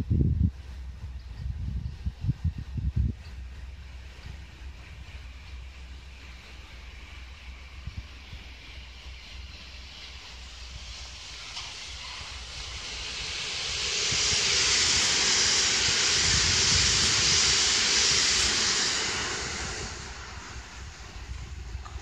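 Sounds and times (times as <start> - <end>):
electric train passing: 0.3 - 22.0.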